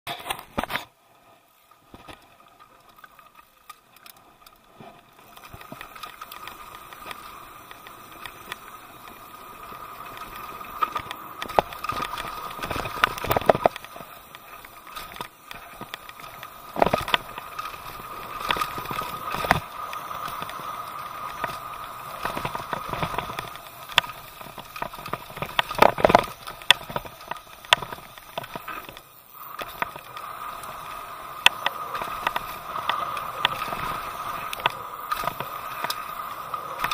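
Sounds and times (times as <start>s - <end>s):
bike tyres crunching on dirt: 0.1s - 36.9s
wind rushing over camera: 4.9s - 36.9s.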